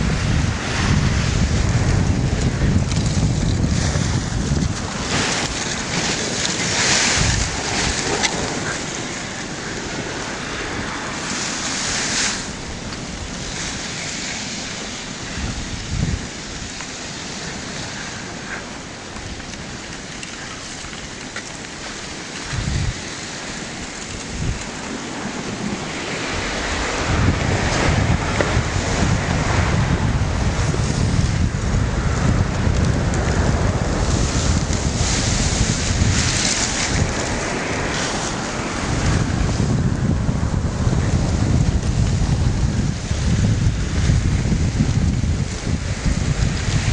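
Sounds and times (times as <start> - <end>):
wind rumble on microphone: 0.0 - 46.9
ice floes grinding: 0.1 - 39.8.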